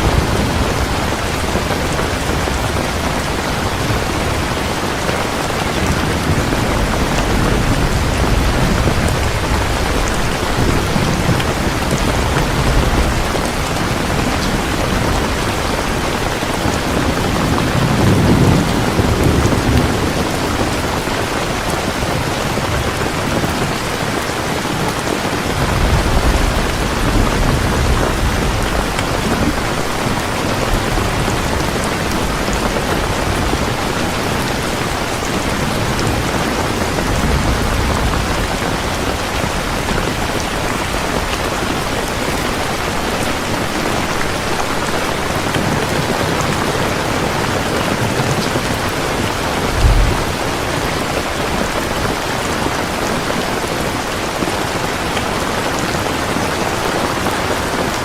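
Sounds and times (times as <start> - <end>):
thunder rolling: 0.0 - 23.4, 25.5 - 43.2, 46.7 - 52.2
heavy rain: 0.0 - 58.0.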